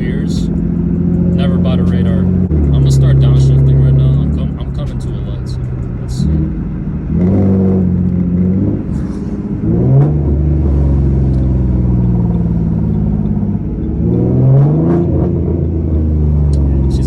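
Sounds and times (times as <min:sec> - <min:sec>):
car exhaust downshifting: 0:00.0 - 0:17.0.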